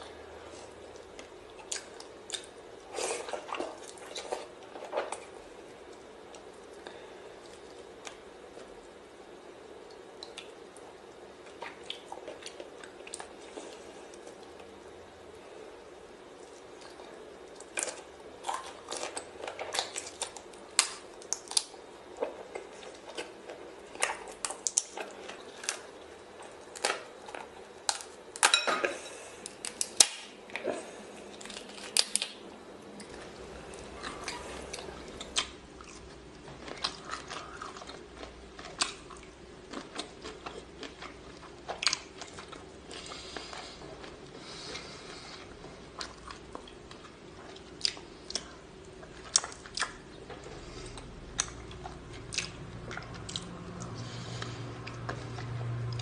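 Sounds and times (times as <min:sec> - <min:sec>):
chewing and crunching shellfish: 0:00.2 - 0:09.0, 0:09.7 - 0:14.9, 0:16.2 - 0:56.0.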